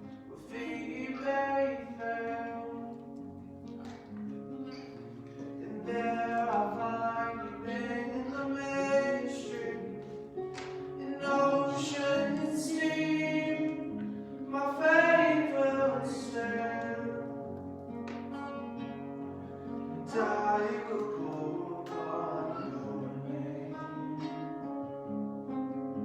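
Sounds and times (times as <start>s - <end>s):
person singing: 0.0s - 3.2s, 4.7s - 17.6s, 19.5s - 24.7s
guitar accompaniment: 0.0s - 26.0s.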